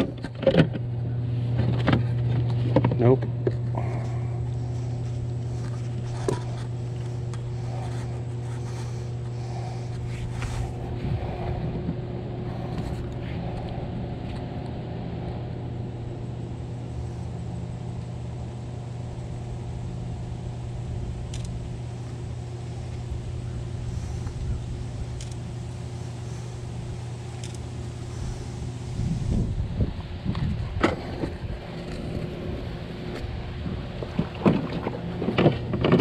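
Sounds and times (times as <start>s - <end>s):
low motor hum: 0.0s - 36.0s.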